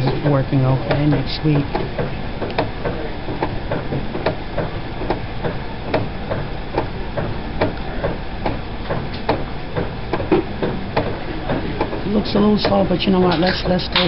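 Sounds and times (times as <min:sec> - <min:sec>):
dialysis pump rhythmic knocking: 0:00.0 - 0:14.0
low steady machine hum: 0:00.0 - 0:14.0.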